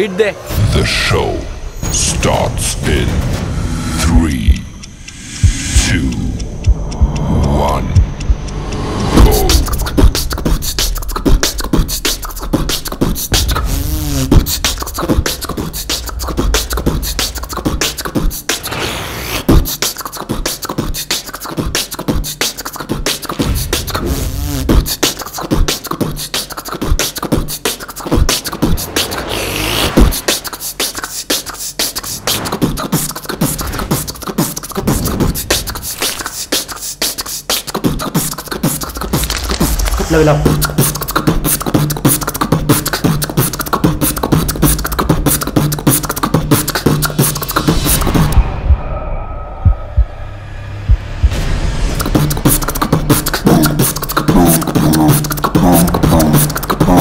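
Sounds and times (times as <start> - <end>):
sliding pitched vocal notes: 4.0 - 57.0
person beatboxing: 4.1 - 48.4, 51.9 - 57.0.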